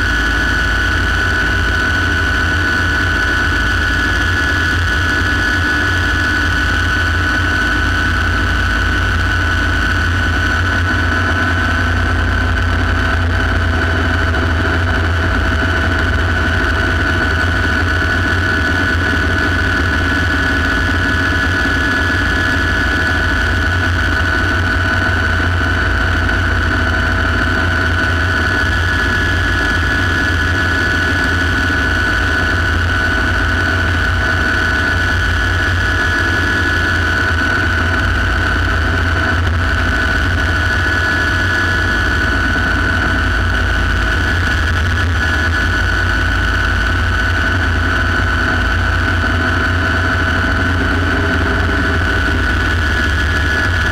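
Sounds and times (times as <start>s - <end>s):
helicopter rotor noise: 0.0s - 53.9s
helicopter turbine whine: 0.0s - 53.9s.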